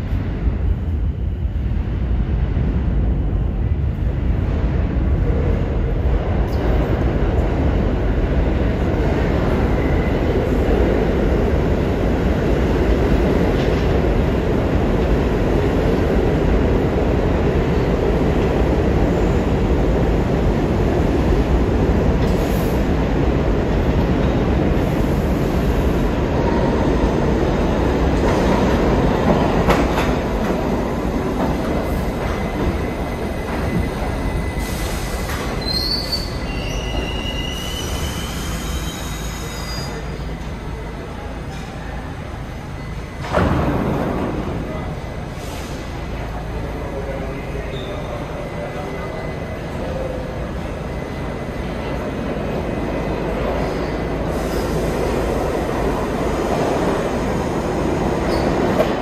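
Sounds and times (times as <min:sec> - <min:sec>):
subway train wheels rumbling: 0:00.0 - 0:59.0.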